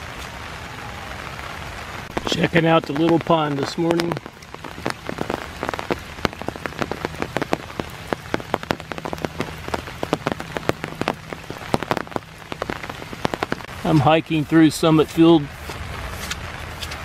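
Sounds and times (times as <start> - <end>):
rain hissing on pond: 0.0 - 17.0
raindrops tapping: 0.0 - 17.0.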